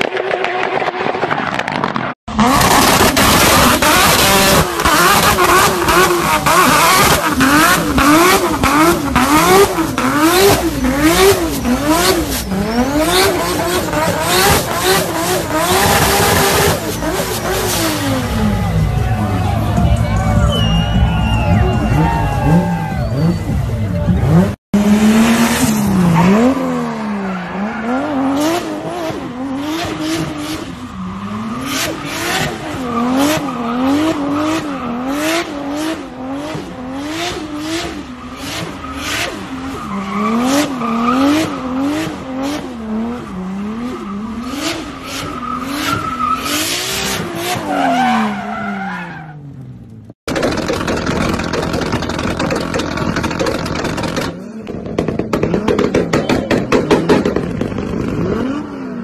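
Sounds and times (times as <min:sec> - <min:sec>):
car engine revving: 0:01.8 - 0:59.0.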